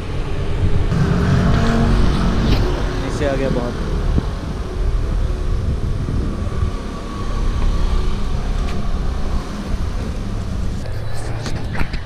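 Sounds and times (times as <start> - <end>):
motor vehicle running: 0.0 - 12.0.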